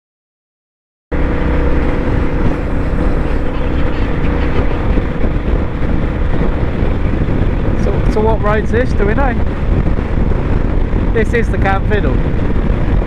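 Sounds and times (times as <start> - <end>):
wind on microphone: 1.1 - 13.0
motorcycle engine running: 1.2 - 13.0.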